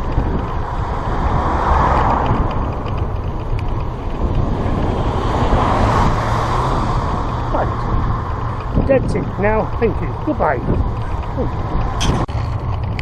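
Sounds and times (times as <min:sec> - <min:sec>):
bicycle mechanical rattle: 0:00.0 - 0:05.2, 0:06.3 - 0:13.0
bicycle road rumble: 0:00.0 - 0:13.0
broad rushing noise: 0:00.0 - 0:13.0
wind buffeting microphone: 0:00.0 - 0:13.0.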